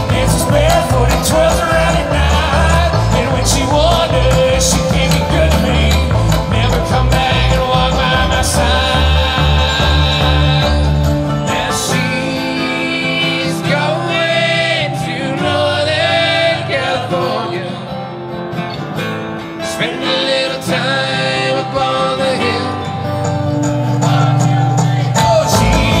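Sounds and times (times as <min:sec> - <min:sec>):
bluegrass string band playing: 0:00.0 - 0:26.0.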